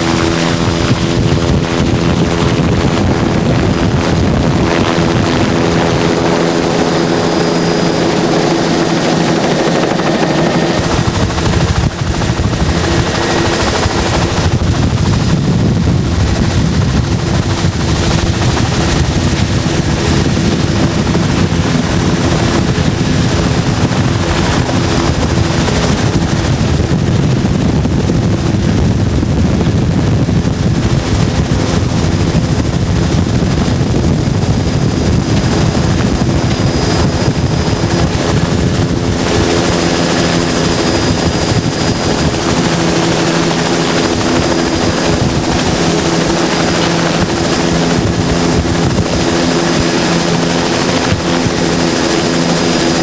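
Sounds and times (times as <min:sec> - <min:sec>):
boat engine running: 0:00.0 - 0:53.0.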